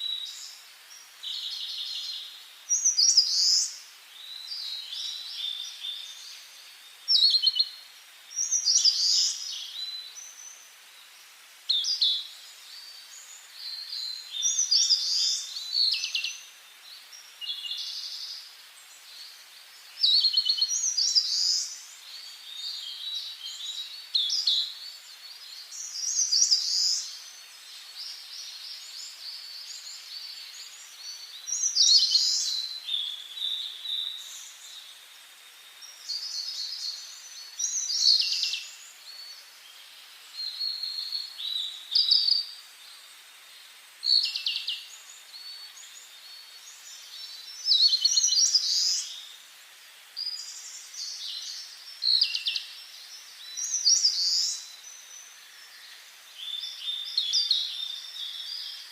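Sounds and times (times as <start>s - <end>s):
faint steady hiss: 0.0s - 58.9s
songbirds singing with trills: 0.0s - 58.9s.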